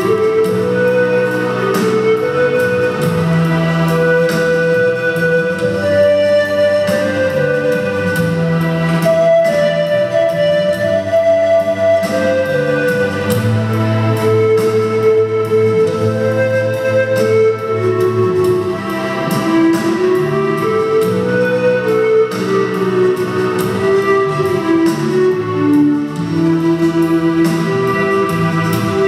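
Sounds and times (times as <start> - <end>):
low sustained accompaniment: 0.0 - 29.0
pan flute melody: 0.0 - 29.0.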